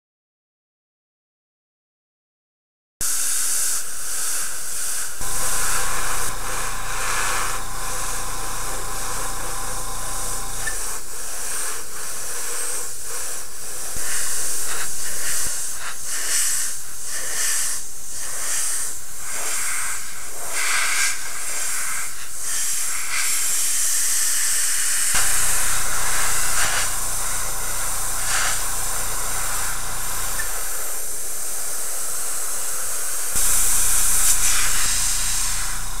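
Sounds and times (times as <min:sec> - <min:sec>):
airbrush hissing: 0:04.2 - 0:36.0.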